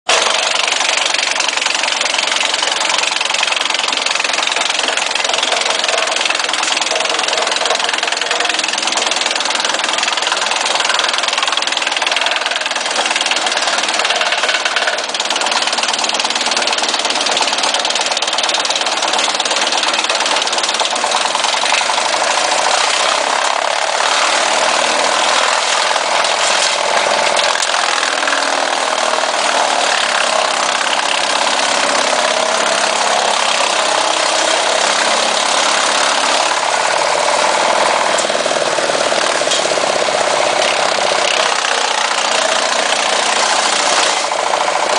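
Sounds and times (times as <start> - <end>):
tractor-driven wood chipper running: 0.0 - 44.9.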